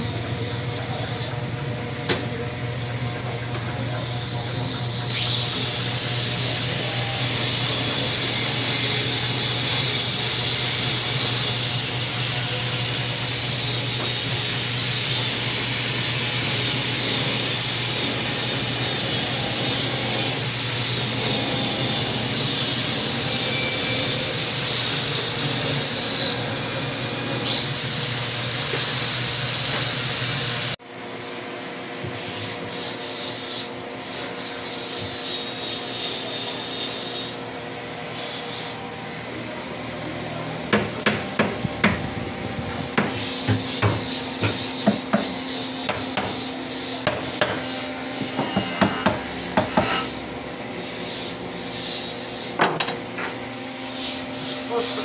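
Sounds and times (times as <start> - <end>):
electric power tool humming: 0.0 - 30.8, 38.0 - 55.0.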